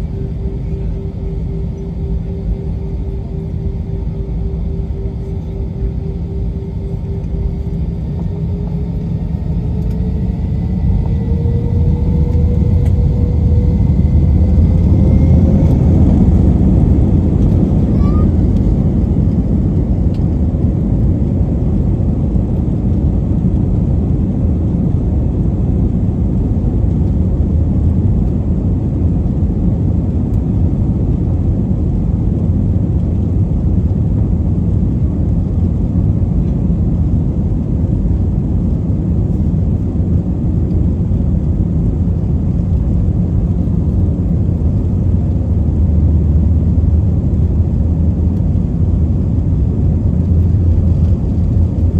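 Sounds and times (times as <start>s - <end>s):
jet engine cabin rumble: 0.0s - 51.9s.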